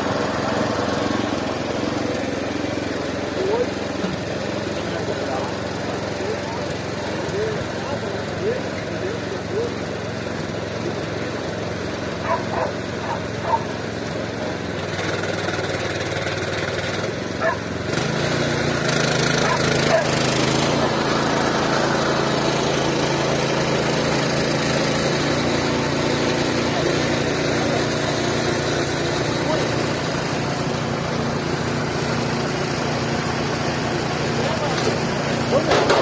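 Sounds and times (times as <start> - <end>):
band saw cutting wood: 0.0 - 9.9, 12.0 - 36.0.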